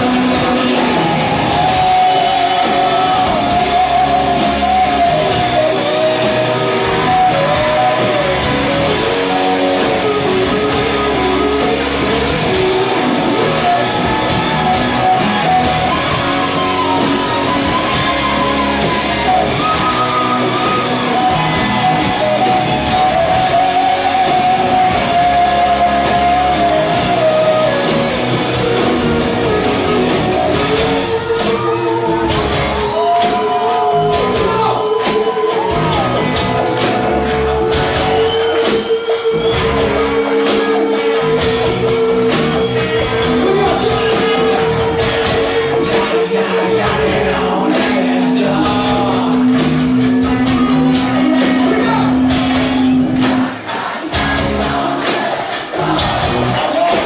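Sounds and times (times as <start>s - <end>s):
lead vocal singing: 0.0s - 57.0s
rock band playing: 0.0s - 57.0s.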